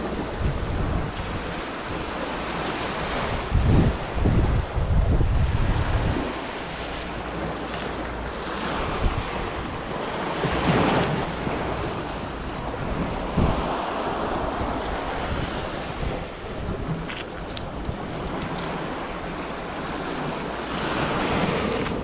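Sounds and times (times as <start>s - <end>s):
surf washing onto beach: 0.0s - 22.0s
wind rumbling on microphone: 0.0s - 22.0s.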